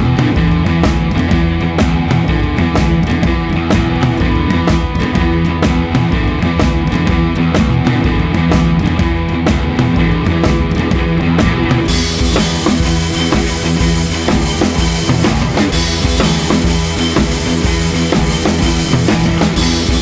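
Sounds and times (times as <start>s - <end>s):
rock music with drums: 0.0s - 20.0s.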